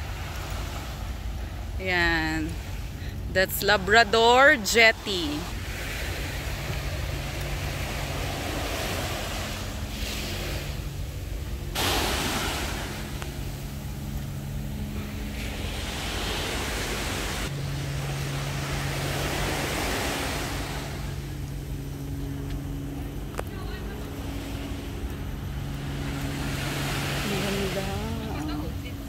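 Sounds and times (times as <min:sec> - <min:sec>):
waves washing onto shore: 0:00.0 - 0:29.0.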